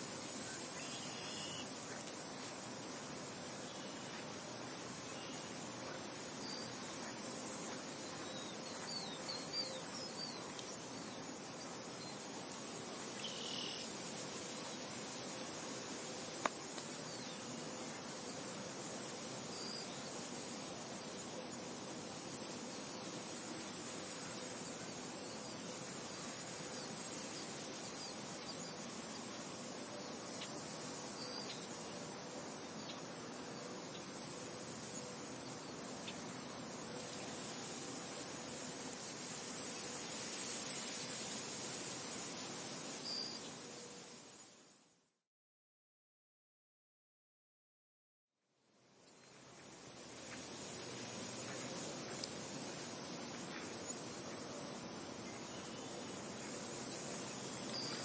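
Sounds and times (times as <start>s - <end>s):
steady wind hiss: 0.0s - 45.2s, 48.6s - 58.0s.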